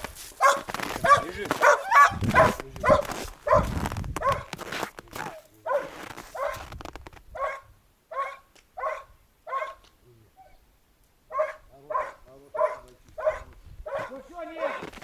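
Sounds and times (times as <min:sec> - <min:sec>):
dog barking: 0:00.4 - 0:06.7, 0:07.3 - 0:10.6, 0:11.3 - 0:15.0.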